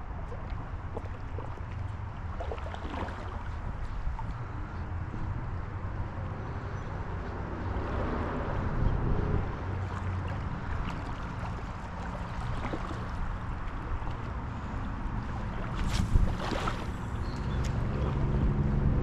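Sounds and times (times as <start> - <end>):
flowing river water: 0.0 - 19.0
wind rumbling on microphone: 0.0 - 19.0.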